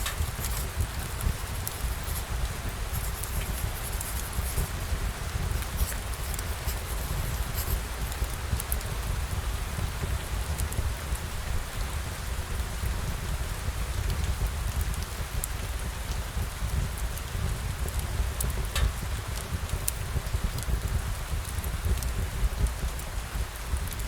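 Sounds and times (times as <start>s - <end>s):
rain patter: 0.0s - 24.0s.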